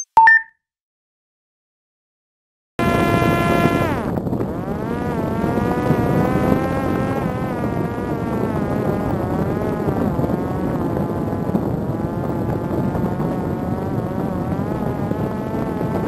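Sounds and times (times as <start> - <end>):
drone propeller buzzing whine: 2.8 - 16.0
wind rush on microphone: 2.8 - 16.0.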